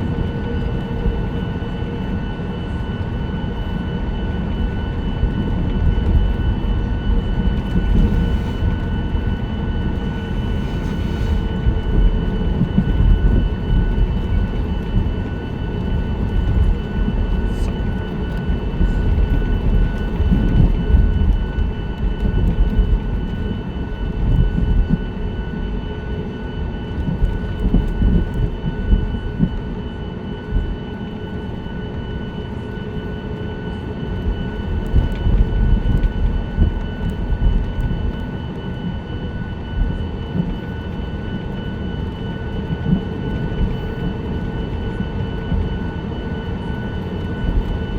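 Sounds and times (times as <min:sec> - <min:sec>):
jet engine whine: 0:00.0 - 0:47.9.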